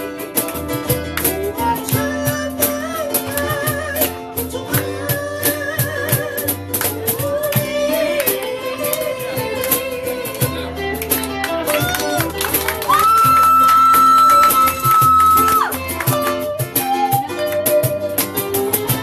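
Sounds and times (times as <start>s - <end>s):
ukuleles strumming: 0.0s - 19.0s.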